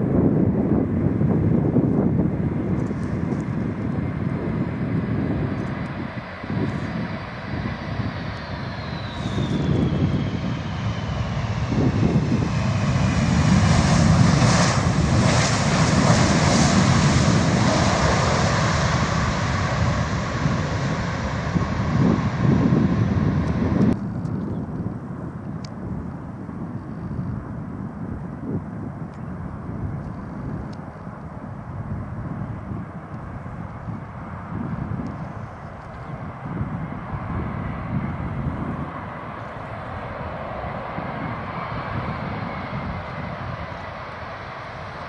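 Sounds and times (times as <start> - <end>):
jet engine roar on runway: 0.0 - 45.0
jet engines whining past: 0.0 - 45.0.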